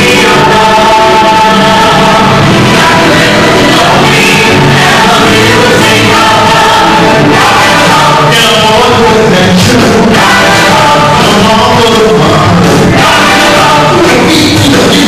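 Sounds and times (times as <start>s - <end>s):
loud musical accompaniment: 0.0s - 15.0s
people singing into microphones: 0.0s - 15.0s.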